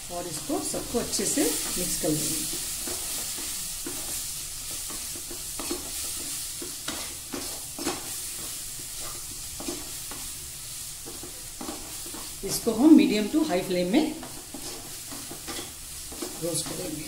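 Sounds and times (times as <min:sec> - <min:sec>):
vegetables sizzling in a wok: 0:00.0 - 0:17.0
wooden spatula scraping: 0:00.2 - 0:17.0.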